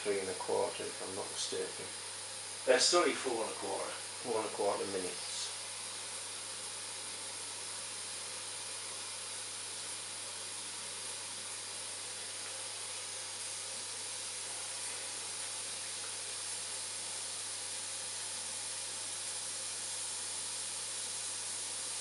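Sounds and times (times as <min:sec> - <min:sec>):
steam boiler hissing: 0:00.0 - 0:22.0.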